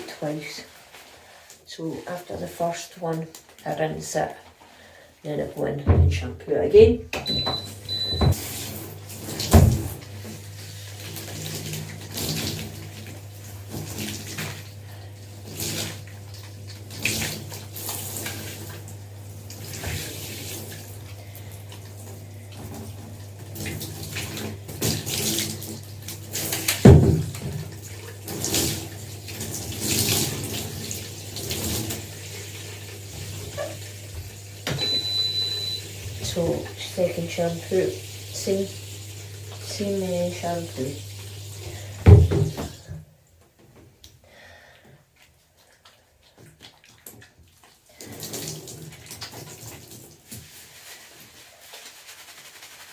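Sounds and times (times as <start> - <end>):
running water splashing: 7.2 - 43.0, 45.2 - 52.9.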